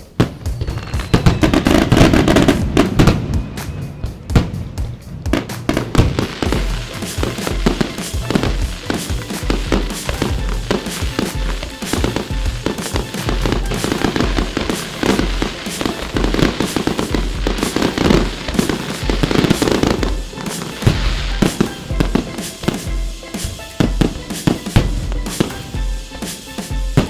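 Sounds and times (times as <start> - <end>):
fireworks bursting and crackling: 0.0 - 27.0
music with steady bass beat: 0.0 - 27.0.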